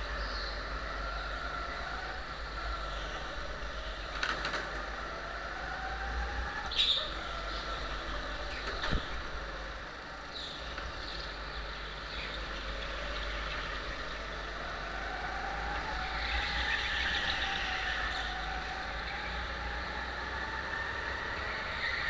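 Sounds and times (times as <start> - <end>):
go-kart engine racing: 0.0 - 22.0.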